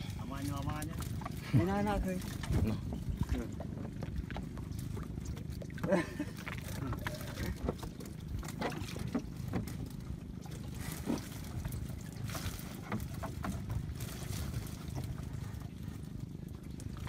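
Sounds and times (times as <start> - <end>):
knocks and clicks against hull: 0.0 - 17.0
steady low rumble: 0.0 - 17.0.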